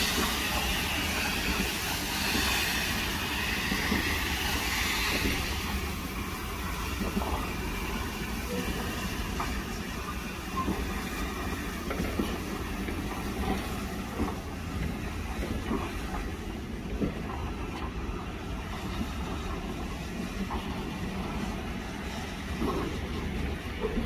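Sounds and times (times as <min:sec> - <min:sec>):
steam locomotive rumble: 0:00.0 - 0:24.0.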